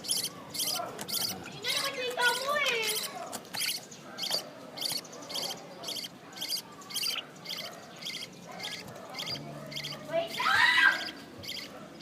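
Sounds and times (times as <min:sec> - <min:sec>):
baby birds chirping: 0:00.0 - 0:12.0.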